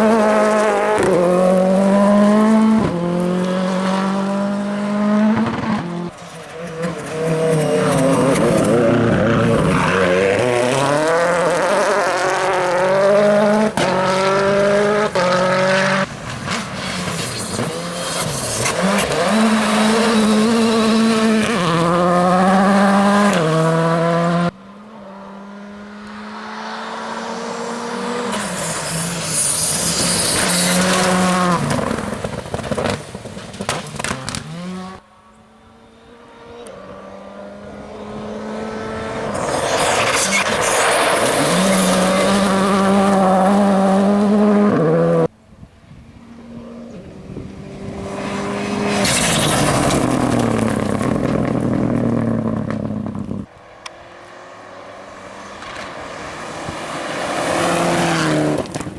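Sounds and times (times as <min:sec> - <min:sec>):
rally cars passing at full throttle: 0:00.0 - 0:58.9.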